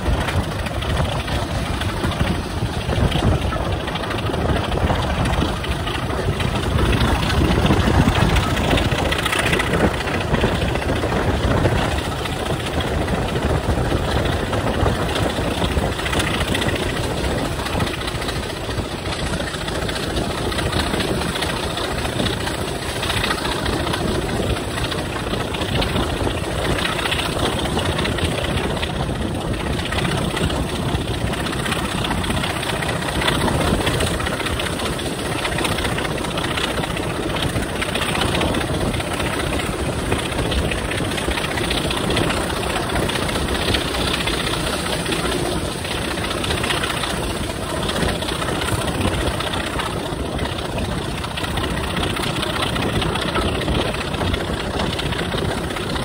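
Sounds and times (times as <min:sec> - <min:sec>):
coaches rumbling on track: 0:00.0 - 0:56.0
diesel locomotive engine running: 0:00.0 - 0:56.0.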